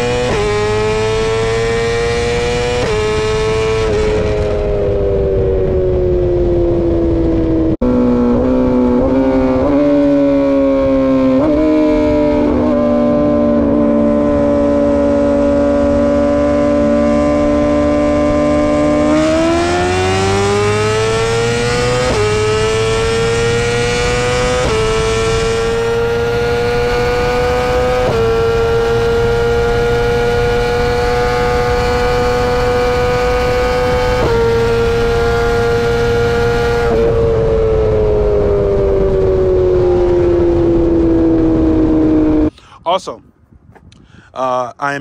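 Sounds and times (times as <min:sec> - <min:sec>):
motorcycle engine accelerating: 0:00.0 - 0:42.5.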